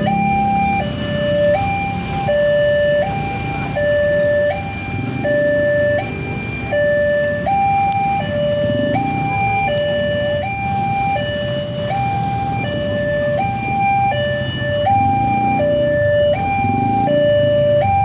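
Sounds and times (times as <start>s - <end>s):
low rumble of road traffic: 0.0s - 18.0s
two-tone crossing alarm: 0.0s - 18.0s.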